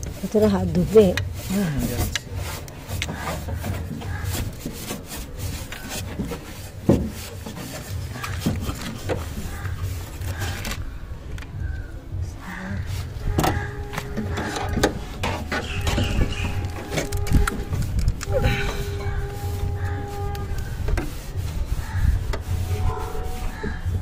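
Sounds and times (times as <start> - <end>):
cloth wiping sheet metal: 0.0 - 10.8, 12.5 - 24.0.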